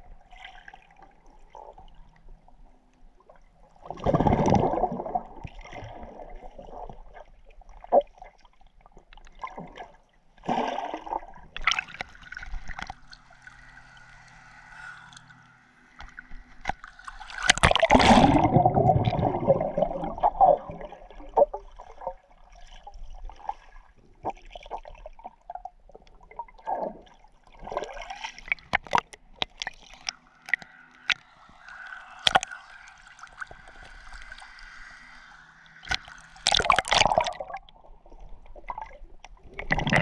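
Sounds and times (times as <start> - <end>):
water splashing and gurgling: 3.6 - 40.0.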